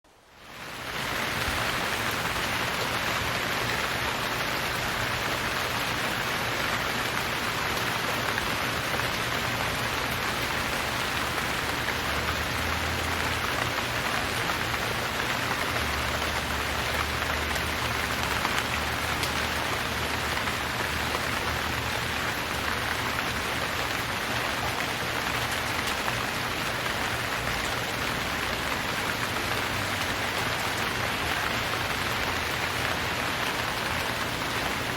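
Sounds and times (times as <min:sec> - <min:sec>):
heavy rain pattering on surfaces: 0:00.1 - 0:34.9.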